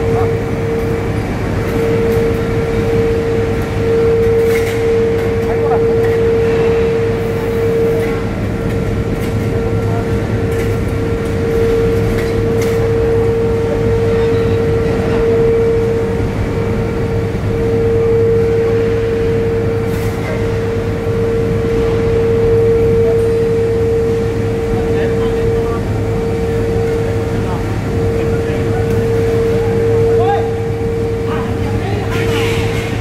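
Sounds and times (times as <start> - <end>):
loud machinery hum: 0.0 - 33.0.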